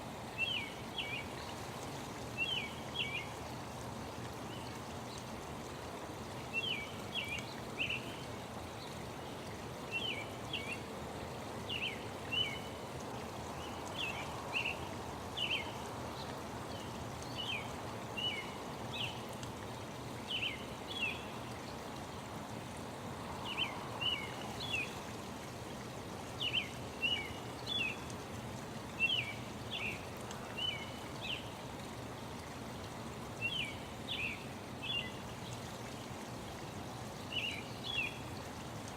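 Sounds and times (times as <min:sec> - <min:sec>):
background hiss: 0:00.0 - 0:38.9.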